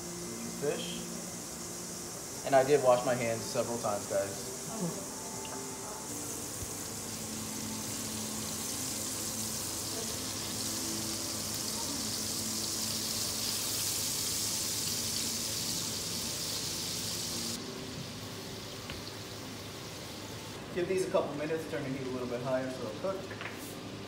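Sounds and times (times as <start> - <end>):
fish sizzling in a frying pan: 0.1 - 23.9.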